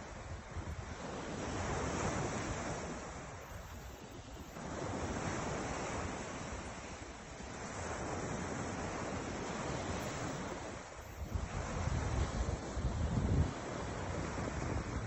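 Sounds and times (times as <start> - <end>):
ocean surf washing: 0.0 - 15.0
wind rumble on microphone: 0.0 - 15.0.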